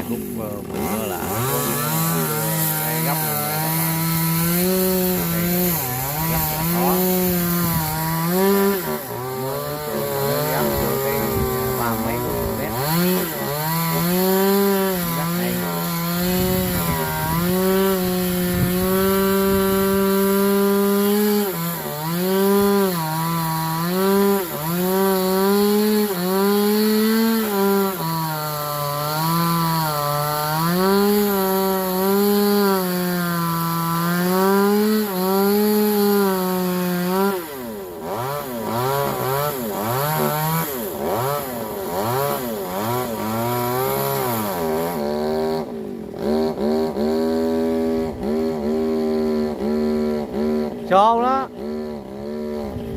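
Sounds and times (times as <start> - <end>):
chainsaw cutting wood: 0.0 - 52.9.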